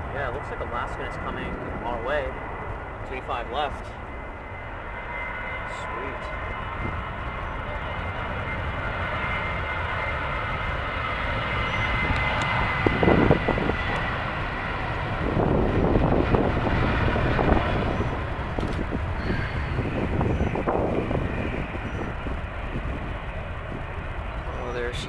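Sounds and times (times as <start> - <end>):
high fan whine: 0.0 - 25.0
jet engines at takeoff: 0.0 - 25.0.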